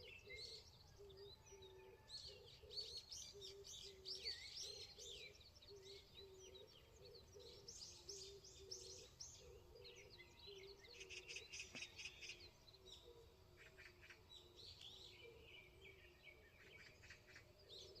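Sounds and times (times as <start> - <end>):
birds chirping and singing: 0.0 - 18.0.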